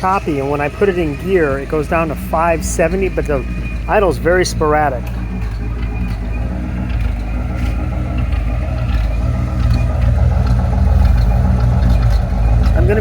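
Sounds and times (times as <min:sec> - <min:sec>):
engine idling rough: 0:00.0 - 0:13.0.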